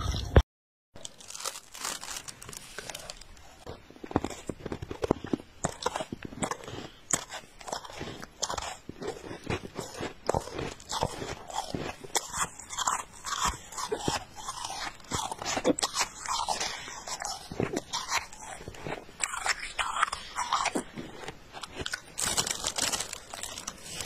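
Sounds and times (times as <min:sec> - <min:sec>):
chewing crunchy snow: 0:01.0 - 0:24.0.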